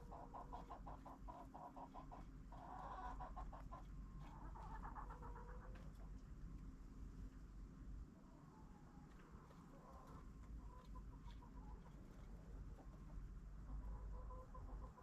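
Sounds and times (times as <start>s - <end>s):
chickens clucking: 0.0s - 6.2s, 9.0s - 15.0s.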